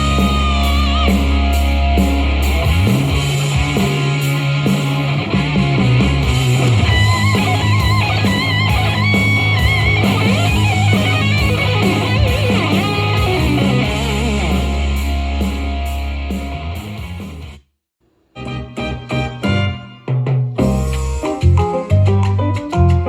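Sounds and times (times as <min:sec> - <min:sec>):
electric guitar bent notes: 0:00.0 - 0:17.4, 0:18.4 - 0:23.0
bass line: 0:00.0 - 0:17.6, 0:18.4 - 0:23.0.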